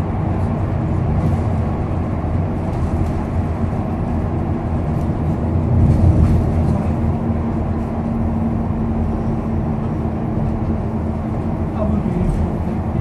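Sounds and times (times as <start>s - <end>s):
bus engine droning: 0.0s - 13.0s
road noise: 0.0s - 13.0s.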